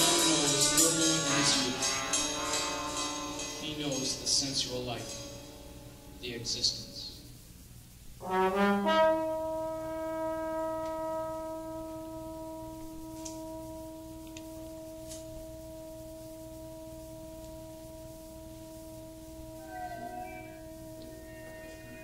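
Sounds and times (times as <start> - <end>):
trombones holding a note: 0.0 - 6.2, 8.2 - 22.0.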